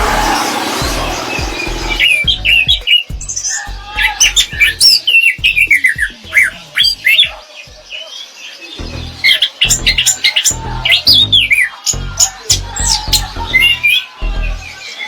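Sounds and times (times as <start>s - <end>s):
thrush singing whistled notes: 0.0s - 15.0s.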